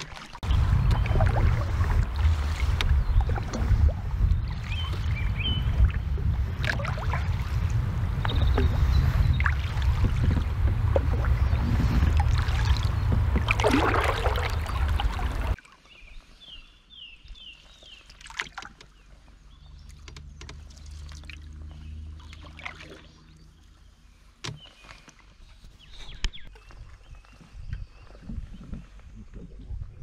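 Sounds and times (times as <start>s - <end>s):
paddle strokes with splashes: 0.0s - 16.7s, 17.3s - 29.9s.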